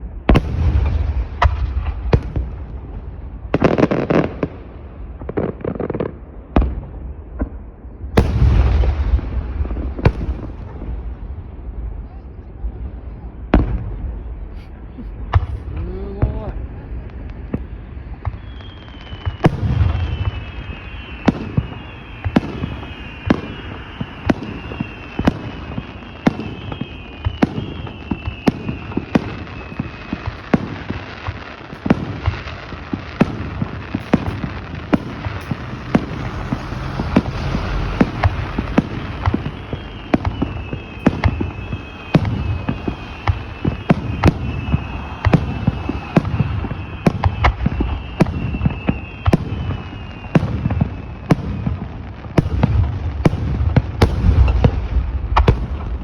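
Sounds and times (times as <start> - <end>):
fireworks crackling: 0.0 - 56.0
firework shells booming: 0.2 - 11.8, 13.5 - 56.0
falling firework whistles: 8.1 - 10.9, 13.2 - 56.0.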